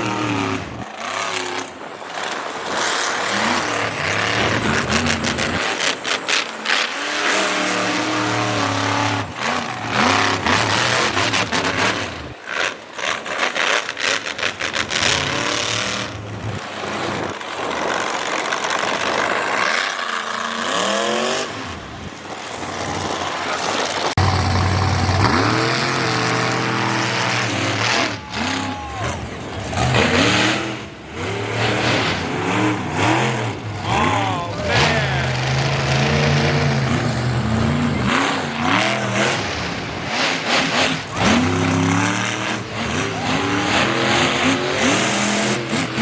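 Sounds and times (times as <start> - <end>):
truck engine revving hard: 0.0 - 46.0.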